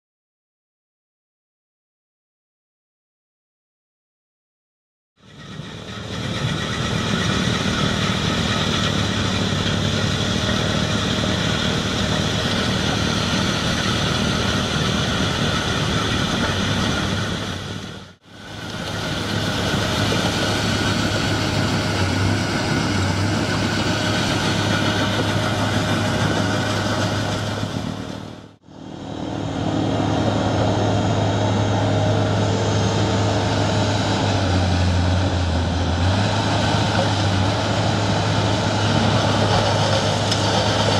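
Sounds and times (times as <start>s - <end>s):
snow blower mechanical din: 5.2s - 40.9s
wheel loader diesel engine: 5.2s - 40.9s.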